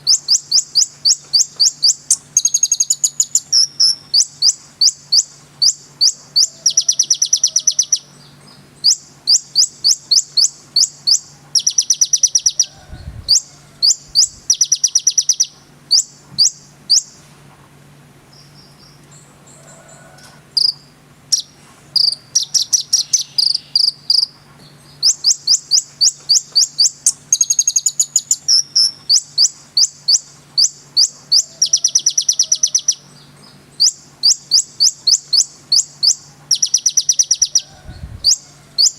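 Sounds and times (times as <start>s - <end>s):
bird singing rapid trills: 0.0s - 17.2s, 20.5s - 38.9s.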